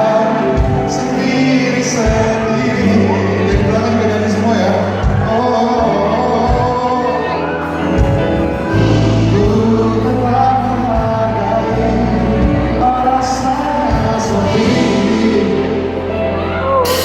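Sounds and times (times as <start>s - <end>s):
live pop band playing: 0.0s - 17.0s
person singing: 0.0s - 17.0s.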